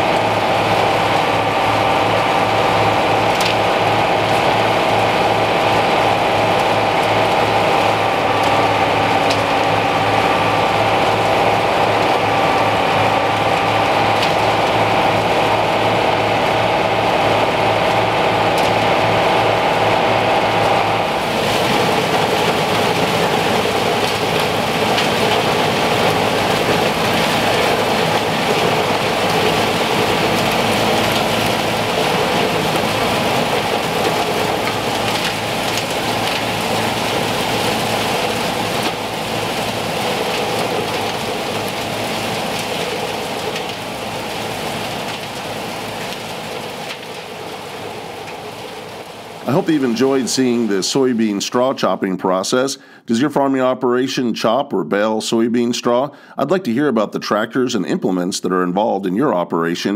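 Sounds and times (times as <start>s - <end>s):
tractor engines running: 0.0s - 54.6s.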